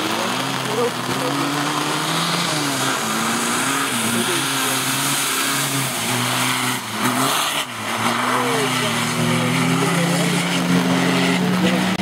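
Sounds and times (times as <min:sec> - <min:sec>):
race car engine revving: 0:00.0 - 0:12.0
tyre spray on wet road: 0:00.0 - 0:12.0.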